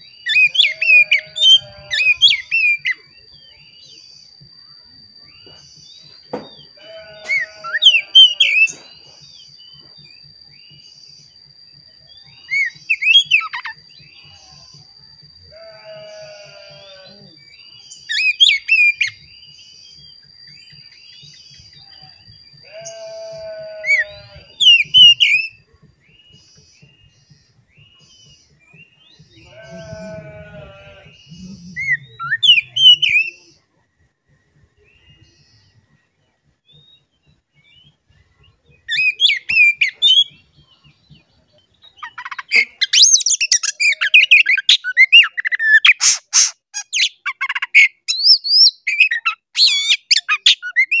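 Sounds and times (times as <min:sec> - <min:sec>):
bird chirping and whistling: 0:00.0 - 0:04.0, 0:05.2 - 0:14.9, 0:15.9 - 0:33.4, 0:38.7 - 0:41.1, 0:41.8 - 0:51.0.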